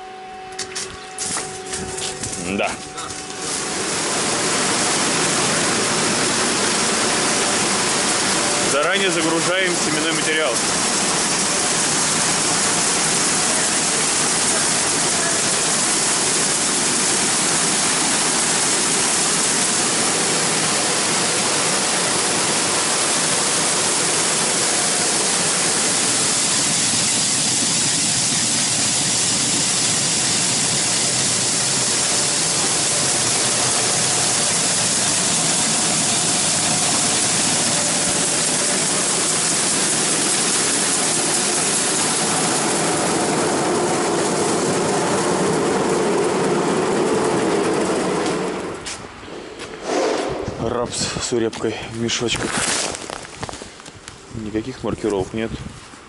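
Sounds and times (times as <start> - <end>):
grain pouring into hopper: 3.4 - 48.9.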